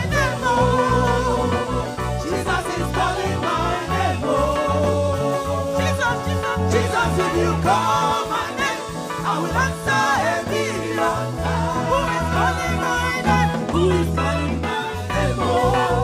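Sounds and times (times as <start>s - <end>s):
church band playing gospel: 0.0s - 16.0s
repeating bass line: 0.0s - 16.0s
wavering lead melody: 0.0s - 16.0s.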